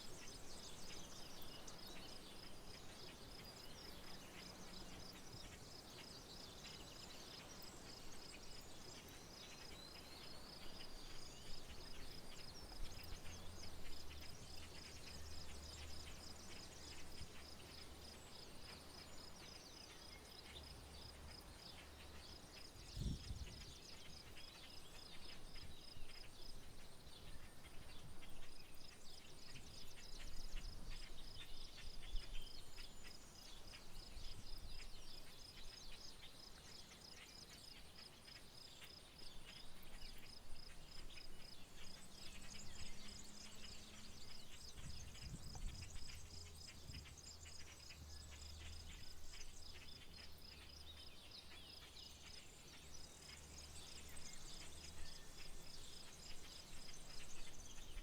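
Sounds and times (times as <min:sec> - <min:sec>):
bird chirps: 0:00.0 - 0:58.0.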